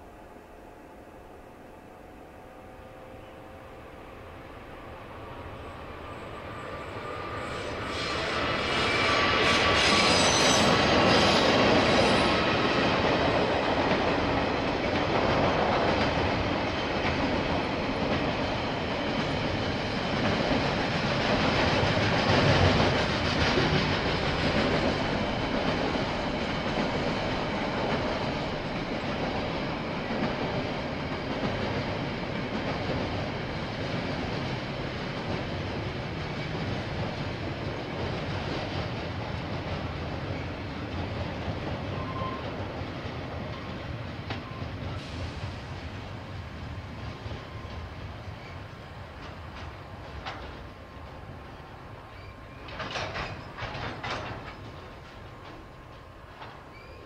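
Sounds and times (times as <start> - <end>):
freight train passing over bridge: 0.0 - 57.0.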